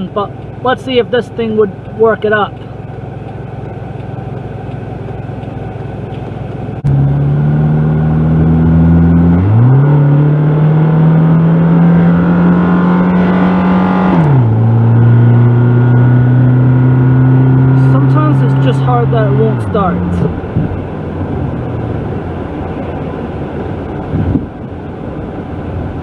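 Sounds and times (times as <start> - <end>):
car engine drone from inside cabin: 0.0 - 26.0.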